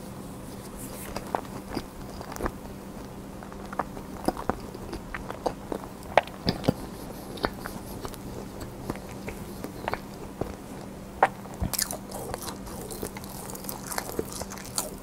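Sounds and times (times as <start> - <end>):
faint steady hum: 0.0 - 15.0
chewing and mouth smacks: 0.6 - 15.0.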